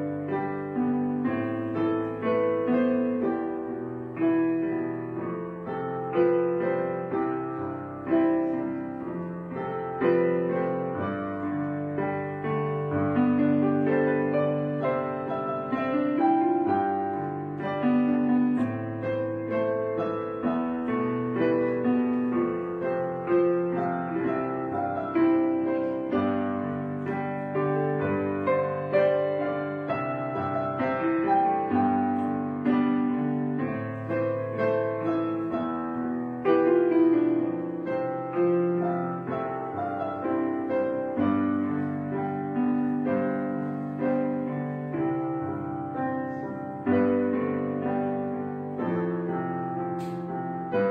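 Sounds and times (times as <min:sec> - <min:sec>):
slow gentle piano music: 0:00.0 - 0:50.9.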